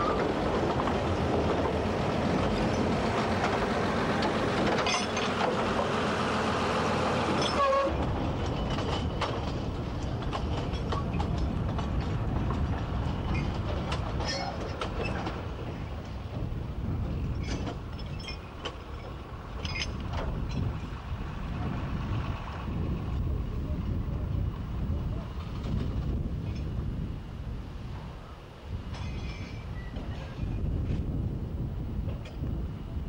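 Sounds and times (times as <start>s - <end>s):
wheels and couplings clanking: 0.0s - 6.2s, 7.2s - 26.8s, 28.9s - 31.1s
diesel locomotive rumbling: 0.0s - 33.0s.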